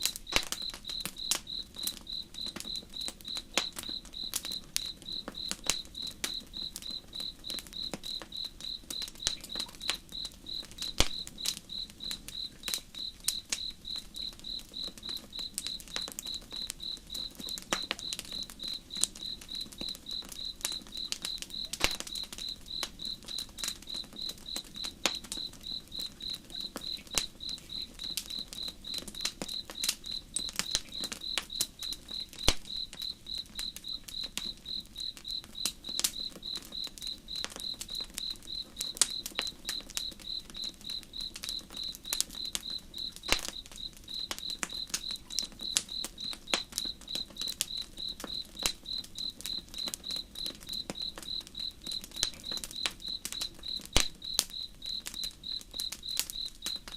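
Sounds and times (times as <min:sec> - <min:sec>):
campfire crackling: 0:00.0 - 0:56.9
cricket chirping: 0:00.0 - 0:56.9.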